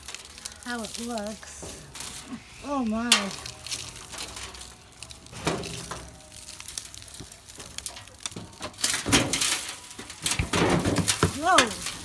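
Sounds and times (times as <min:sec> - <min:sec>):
soil rustling and crumbling: 0:00.0 - 0:12.0.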